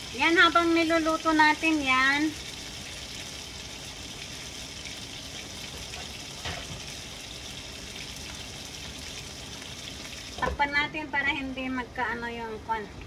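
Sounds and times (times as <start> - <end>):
chicken sizzling in skillet: 0.0 - 10.5.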